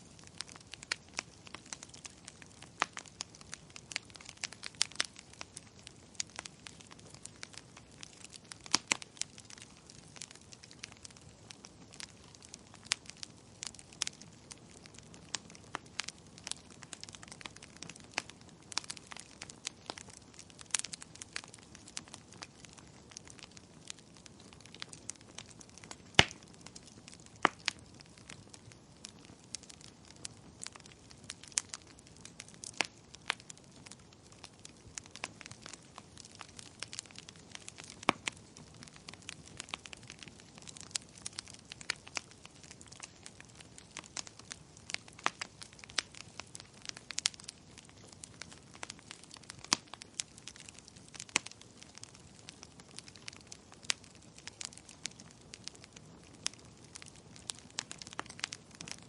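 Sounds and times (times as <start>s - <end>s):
faint low hiss: 0.0s - 48.4s
wood fire crackling: 0.0s - 59.0s.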